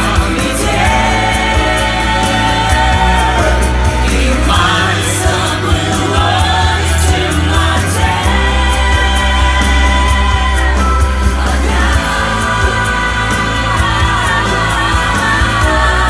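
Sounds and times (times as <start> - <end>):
choir-like singing: 0.0 - 16.0
pop backing track with bass: 0.0 - 16.0.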